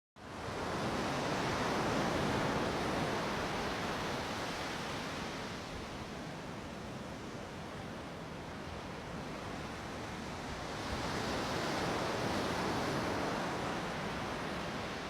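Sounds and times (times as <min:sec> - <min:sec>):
ocean waves breaking on shore: 0:00.2 - 0:15.0.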